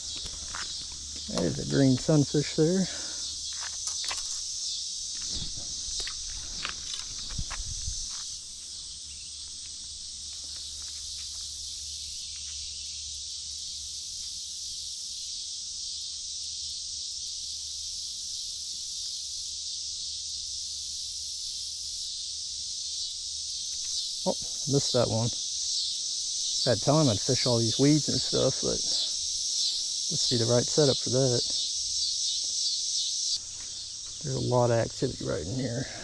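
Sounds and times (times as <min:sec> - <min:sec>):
insects chorus: 0:00.0 - 0:36.0
pulsing high insect layer: 0:00.0 - 0:36.0.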